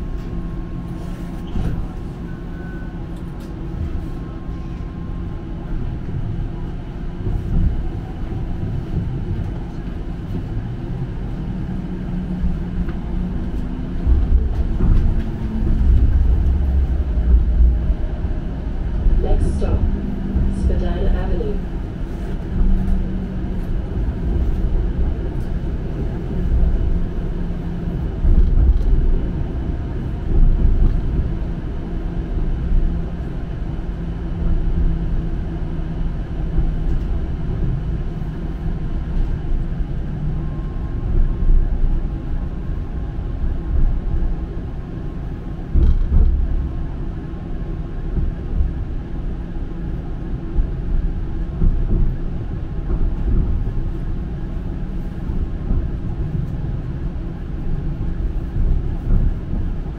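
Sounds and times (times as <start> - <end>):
streetcar bumps: 0.0 - 4.2, 5.8 - 59.9
streetcar rumbling on rails: 0.0 - 59.9.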